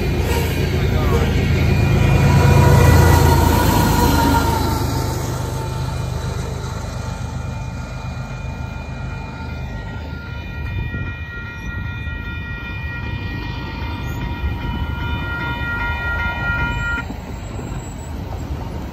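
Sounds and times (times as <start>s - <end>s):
steady high-pitched tones: 0.0s - 18.6s
freight train rumbling on rails: 0.0s - 18.9s.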